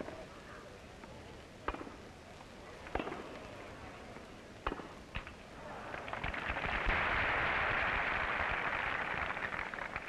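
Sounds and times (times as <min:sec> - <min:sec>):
film soundtrack hiss: 0:00.0 - 0:10.0.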